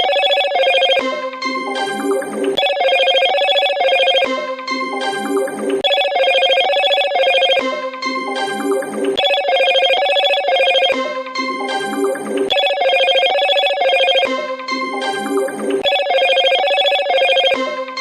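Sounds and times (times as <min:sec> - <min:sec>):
electronic ringtone melody: 0:00.0 - 0:01.1, 0:01.7 - 0:17.9.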